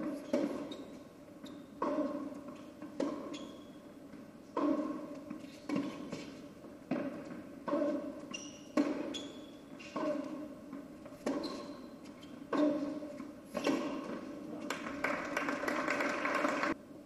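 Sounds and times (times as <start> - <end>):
shoes squeaking on court: 0.0 - 14.4
tennis racket hitting ball: 0.0 - 15.0
tennis ball bouncing: 0.0 - 15.5.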